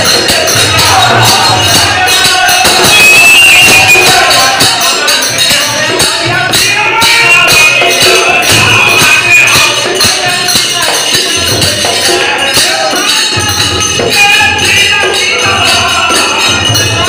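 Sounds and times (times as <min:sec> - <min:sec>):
hand percussion: 0:00.0 - 0:17.0
jingling cymbals: 0:00.0 - 0:17.0
voices singing: 0:00.0 - 0:17.0.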